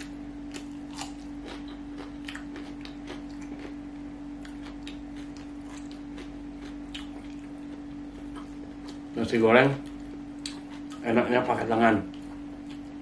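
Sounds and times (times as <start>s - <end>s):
person chewing with wet smacks: 0.0s - 3.8s, 4.4s - 9.0s, 9.8s - 11.1s, 12.1s - 12.9s
low hum: 0.0s - 13.0s.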